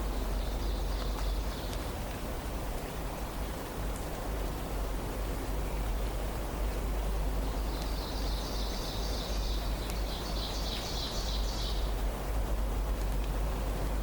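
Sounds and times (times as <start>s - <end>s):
forest ambience hiss and rumble: 0.0s - 14.0s.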